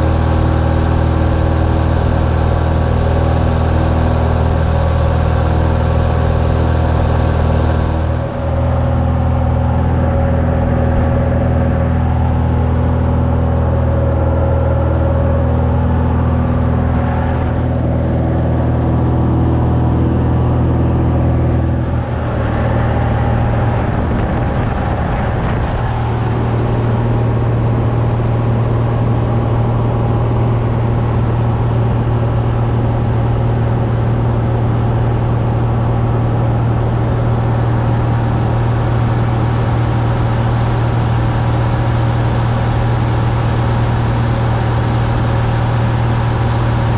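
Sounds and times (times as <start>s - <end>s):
light aircraft engine droning: 0.0s - 46.9s.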